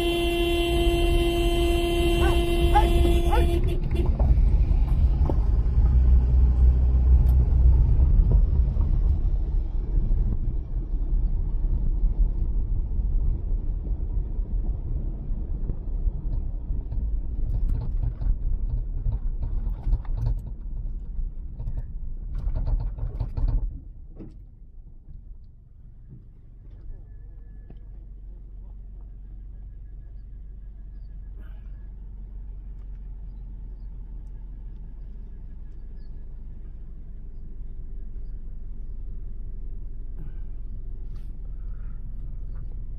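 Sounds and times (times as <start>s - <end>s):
engine and road noise rumble: 0.0s - 42.9s.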